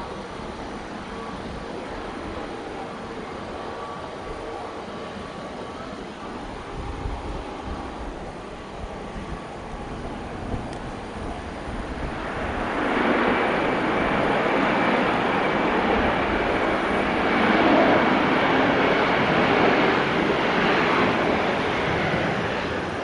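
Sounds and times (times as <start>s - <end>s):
faint steady whine: 0.0s - 19.2s
jet engines roaring: 0.0s - 23.0s.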